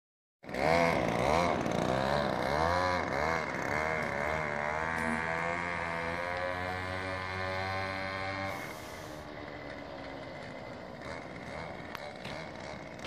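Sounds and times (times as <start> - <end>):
small two-stroke engine revving: 0.4 - 13.0.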